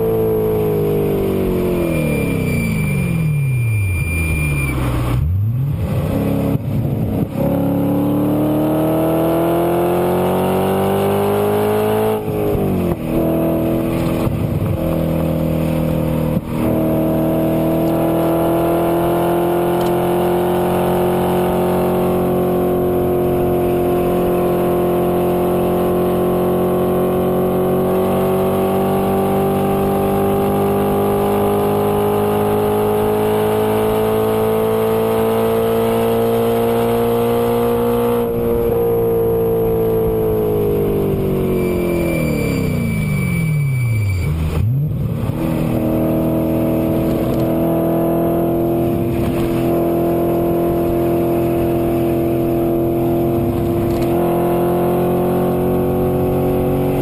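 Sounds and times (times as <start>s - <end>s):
car engine accelerating hard: 0.0s - 57.0s.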